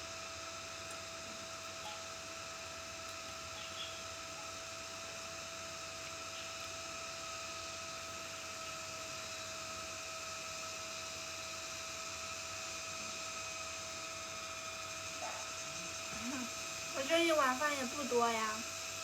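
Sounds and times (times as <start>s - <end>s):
electrical whine: 0.0s - 19.0s
steady hiss: 0.0s - 19.0s.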